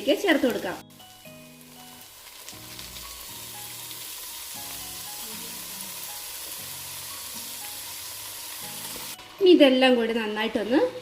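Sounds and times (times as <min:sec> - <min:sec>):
chicken sizzling in a pan: 0:00.0 - 0:11.0
soft background music: 0:00.0 - 0:11.0.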